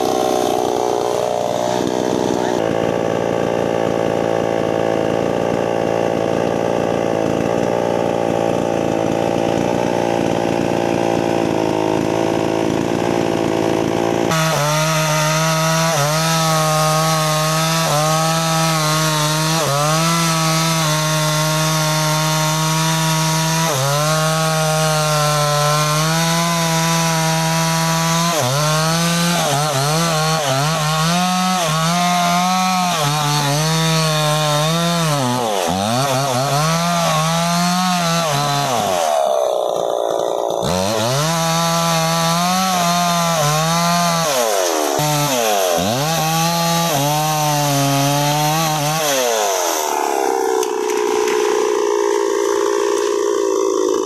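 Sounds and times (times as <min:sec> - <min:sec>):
chainsaw sawing into trunk: 0:00.0 - 0:54.0.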